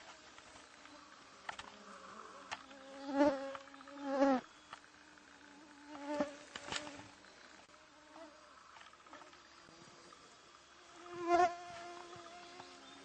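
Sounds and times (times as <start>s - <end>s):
insects buzzing past: 0.0s - 13.0s.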